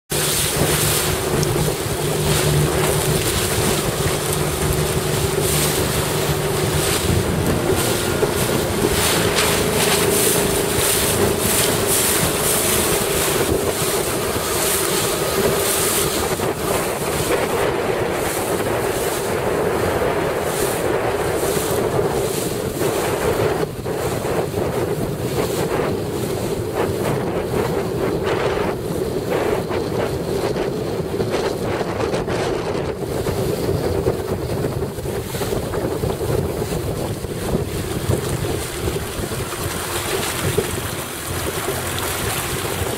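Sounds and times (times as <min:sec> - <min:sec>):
motorboat engine hum: 0:00.0 - 0:42.9
waves and spray: 0:00.1 - 0:42.9
wind buffeting microphone: 0:00.1 - 0:42.9.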